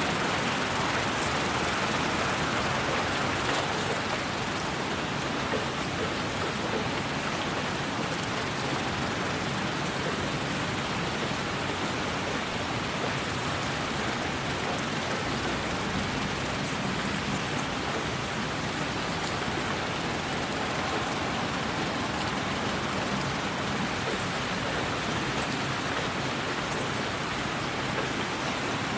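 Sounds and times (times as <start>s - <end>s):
rain-like white noise: 0.0s - 28.9s.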